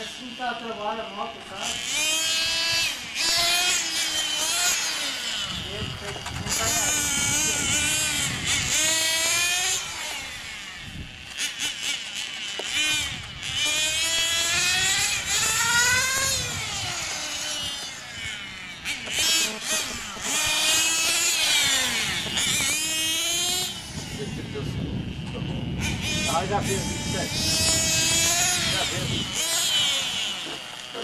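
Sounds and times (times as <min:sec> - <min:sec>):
toy motorcycle motor buzzing: 0:00.0 - 0:31.0.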